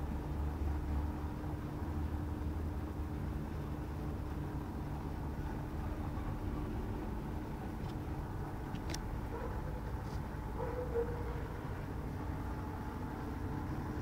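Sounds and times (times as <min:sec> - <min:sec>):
low rumble and hum: 0:00.0 - 0:14.0.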